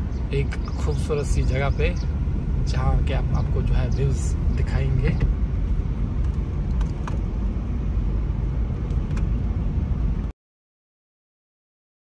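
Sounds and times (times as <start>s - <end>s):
car engine and road noise: 0.0s - 10.3s.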